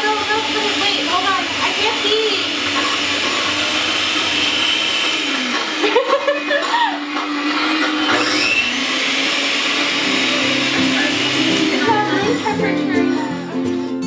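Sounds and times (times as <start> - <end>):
electric hand mixer whirring: 0.0 - 13.6.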